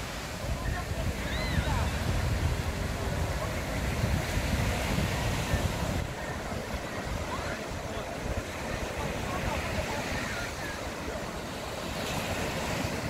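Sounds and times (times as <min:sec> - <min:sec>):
surf breaking on sandy beach: 0:00.0 - 0:13.0
wind buffeting microphone: 0:00.0 - 0:13.0.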